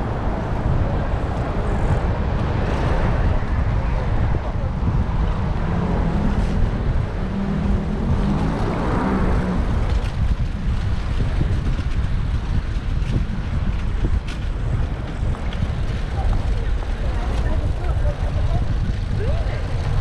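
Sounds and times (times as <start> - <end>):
motor vehicles passing: 0.0 - 20.0
wind rumbling on microphone: 0.0 - 20.0.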